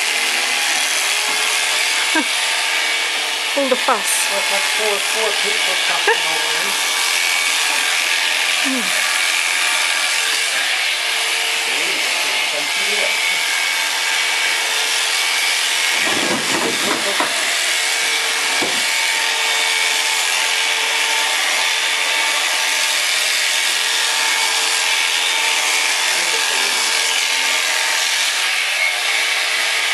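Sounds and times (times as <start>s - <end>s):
electric shears buzzing: 0.0s - 29.9s.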